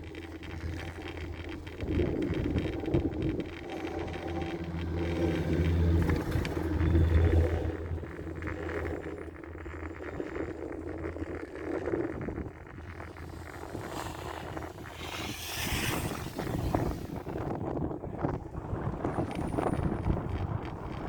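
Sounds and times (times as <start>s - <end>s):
low mechanical rumble: 0.0s - 21.0s
wind rushing over microphone: 0.0s - 21.0s.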